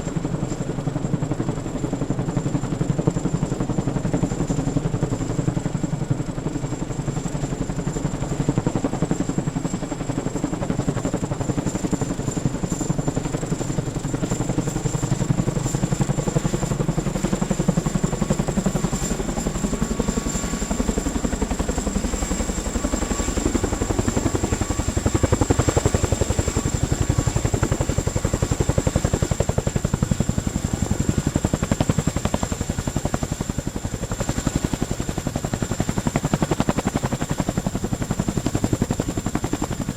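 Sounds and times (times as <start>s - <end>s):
helicopter high whine: 0.0s - 39.9s
helicopter rotor beat: 0.0s - 39.9s.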